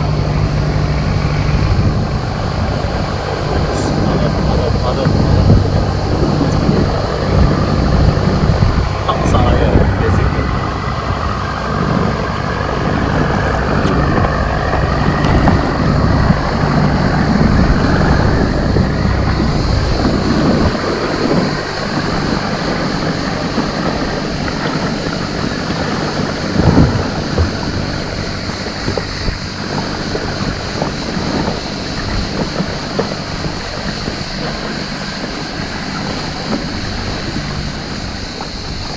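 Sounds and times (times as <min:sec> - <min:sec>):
outboard motor running: 0:00.0 - 0:38.9
water noise: 0:00.0 - 0:38.9
wind on microphone: 0:00.0 - 0:38.9.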